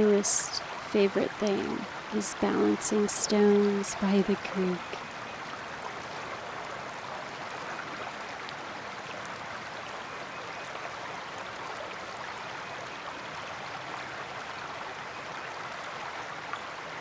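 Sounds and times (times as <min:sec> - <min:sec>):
creek water over stones: 0:00.0 - 0:17.0.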